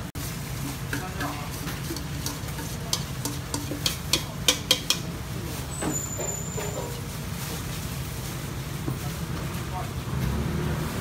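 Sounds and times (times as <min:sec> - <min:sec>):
buns sizzling in frying pan: 0:00.0 - 0:09.7.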